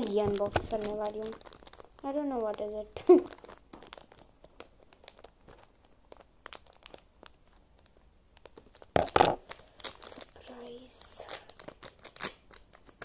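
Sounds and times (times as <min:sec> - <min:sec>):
wrapper crackling and tearing: 0:00.0 - 0:13.0.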